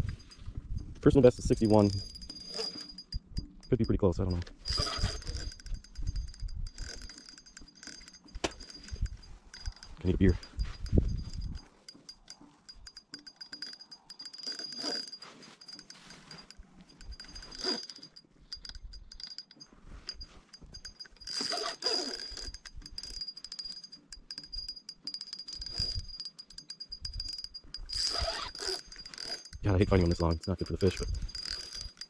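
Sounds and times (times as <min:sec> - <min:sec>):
fishing reel whirring and ticking: 0:00.0 - 0:32.0.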